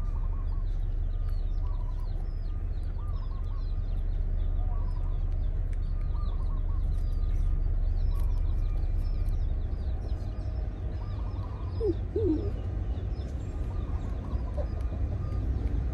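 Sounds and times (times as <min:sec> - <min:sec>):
birds chirping: 0:00.0 - 0:15.9
lower bird calls: 0:00.0 - 0:15.9
steady low rumble: 0:00.0 - 0:15.9.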